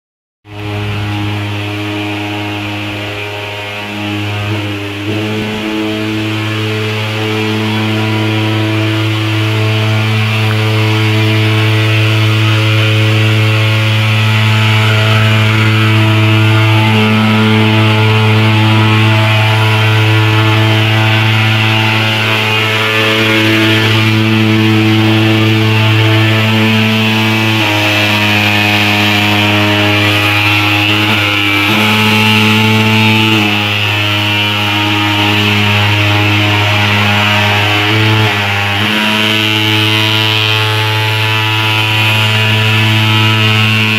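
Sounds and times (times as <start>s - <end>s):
pulse-jet engine buzzing: 0.5s - 43.9s.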